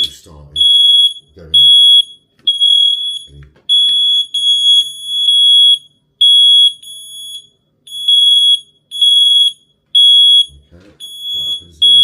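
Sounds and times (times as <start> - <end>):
smoke alarms beeping: 0.0 - 12.0.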